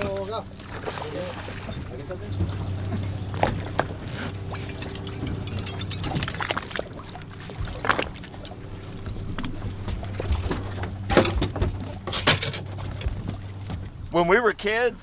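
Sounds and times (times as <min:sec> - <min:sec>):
water slapping against hull: 0:00.0 - 0:14.7
boat engine idling: 0:00.0 - 0:15.0.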